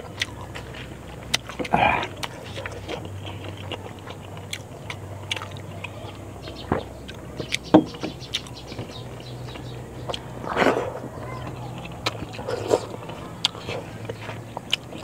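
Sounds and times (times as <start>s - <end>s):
person chewing food: 0.0s - 15.0s
steady low hum: 0.0s - 15.0s.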